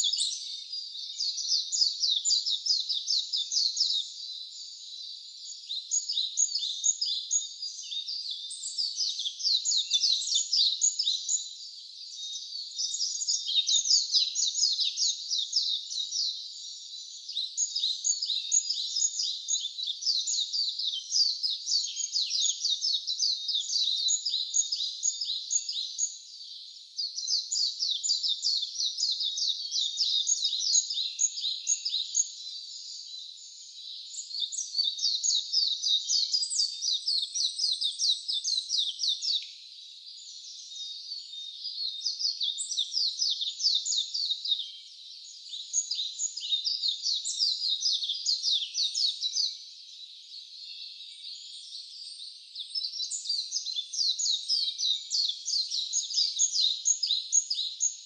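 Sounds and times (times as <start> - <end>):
songbird twittering: 0.0 - 58.0.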